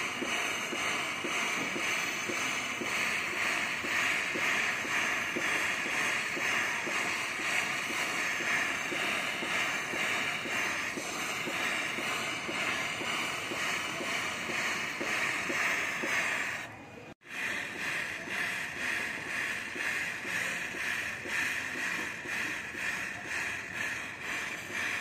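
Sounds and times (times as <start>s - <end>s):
gas torch flame hissing: 0.0s - 25.0s.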